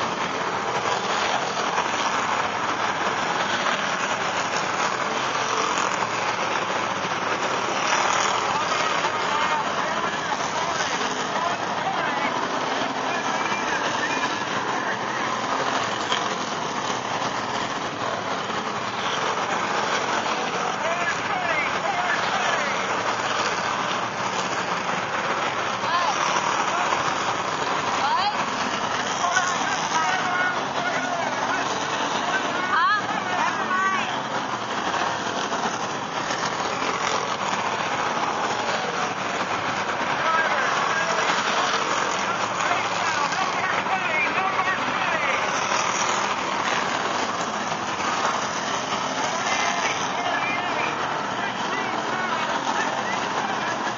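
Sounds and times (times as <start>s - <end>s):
race car engines: 0.0s - 53.9s.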